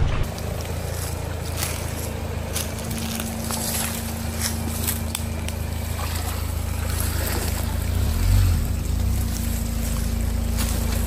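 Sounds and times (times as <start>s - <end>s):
suv engine running low: 0.0s - 11.0s.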